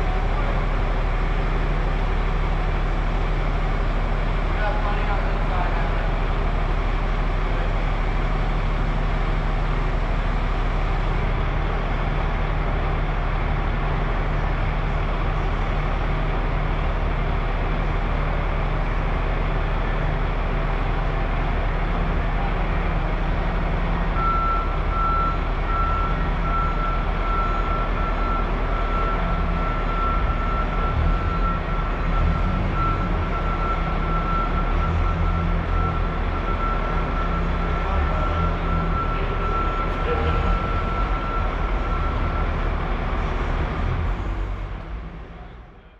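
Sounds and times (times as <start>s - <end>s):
diesel machinery droning: 0.0s - 45.9s.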